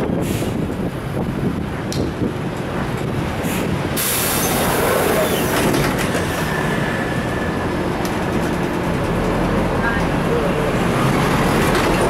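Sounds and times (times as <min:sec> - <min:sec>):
bus body rattling: 0:00.0 - 0:12.0
bus engine running: 0:00.0 - 0:12.0
road and wind noise: 0:00.0 - 0:12.0.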